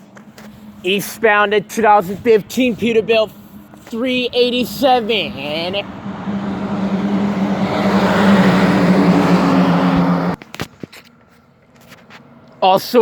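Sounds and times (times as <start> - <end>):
truck driving past: 0.0 - 10.5.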